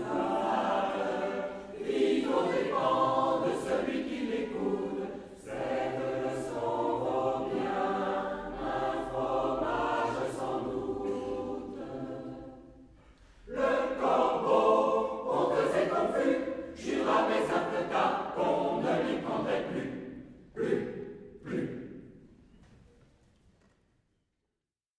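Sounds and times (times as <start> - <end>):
large choir singing: 0.0 - 22.3.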